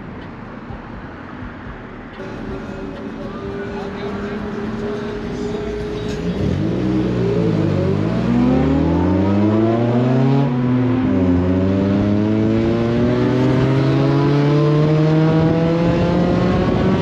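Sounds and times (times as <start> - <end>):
car engine accelerating: 1.6 - 17.0.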